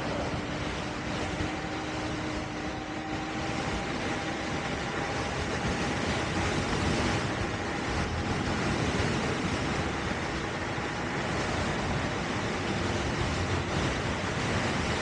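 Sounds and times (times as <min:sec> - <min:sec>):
faint motor whine: 0:00.0 - 0:15.0
wind rushing over microphone: 0:00.0 - 0:15.0.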